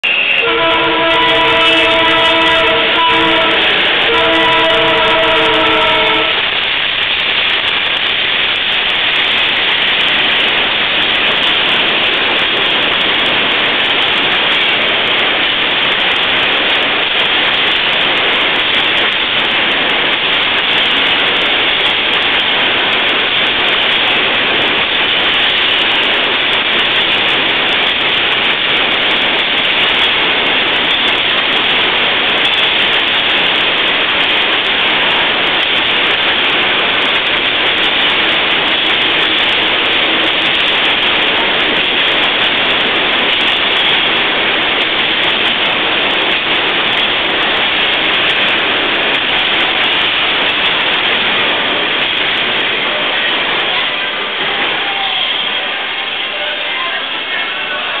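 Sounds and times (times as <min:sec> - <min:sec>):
train wheels rushing on rail: 0:00.0 - 0:58.0.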